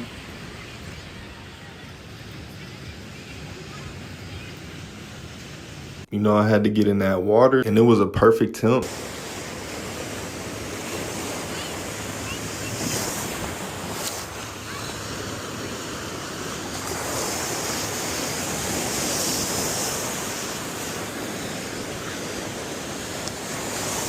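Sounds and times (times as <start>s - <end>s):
waves breaking: 0.0s - 7.8s, 8.6s - 24.0s.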